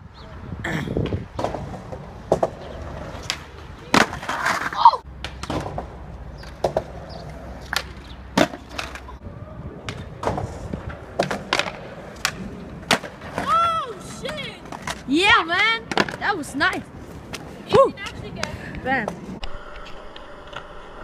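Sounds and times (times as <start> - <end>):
skateboards clacking on concrete: 1.0 - 9.2, 9.8 - 19.4.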